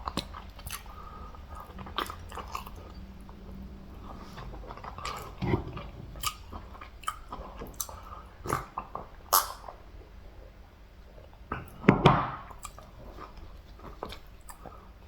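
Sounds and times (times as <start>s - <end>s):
person chewing with wet smacking: 0.0s - 15.0s.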